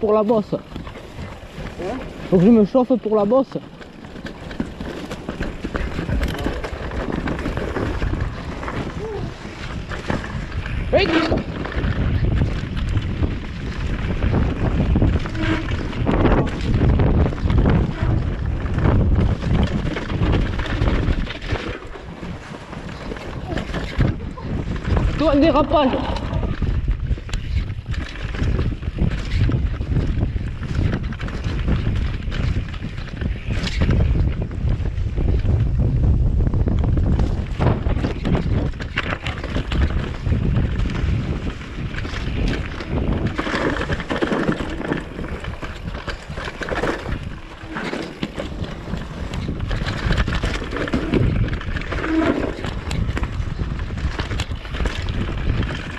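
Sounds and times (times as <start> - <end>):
bike knocking and rattling: 0.0 - 55.9
tyres rumbling on dirt: 0.0 - 55.9
wind buffeting microphone: 0.0 - 55.9.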